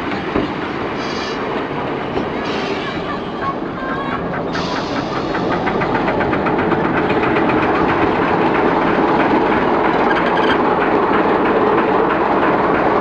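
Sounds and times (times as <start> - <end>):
railcar diesel engine clattering: 0.0 - 13.0.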